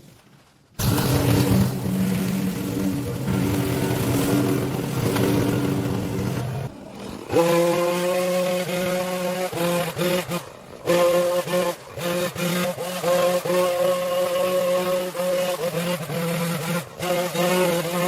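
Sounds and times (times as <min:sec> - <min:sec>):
small petrol engine revving: 0:00.8 - 0:18.0.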